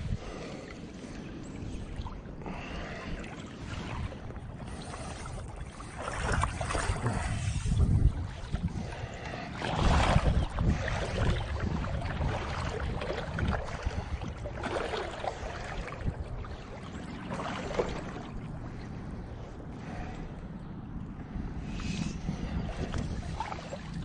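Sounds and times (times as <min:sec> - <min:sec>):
water sloshing around waders: 0:00.0 - 0:24.0.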